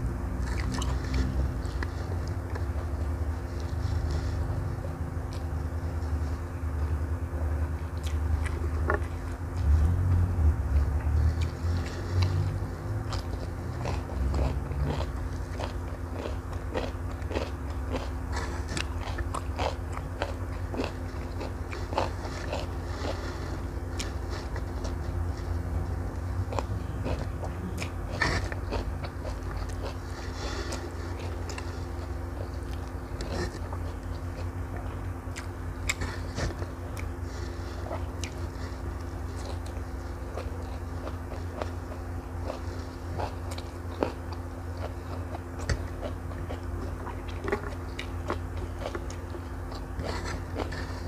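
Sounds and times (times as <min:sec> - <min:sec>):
steady low hum: 0:00.0 - 0:51.0
close chewing and wet mouth sounds: 0:00.3 - 0:51.0.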